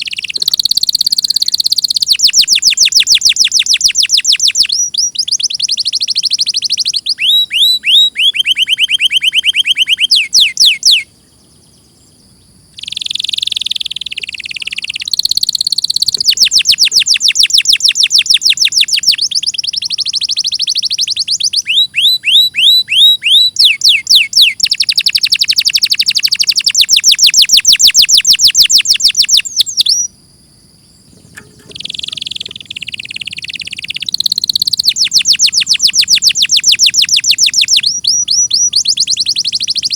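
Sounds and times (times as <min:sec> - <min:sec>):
canary singing in trills: 0:00.0 - 0:12.2, 0:12.8 - 0:30.1, 0:31.0 - 0:39.9.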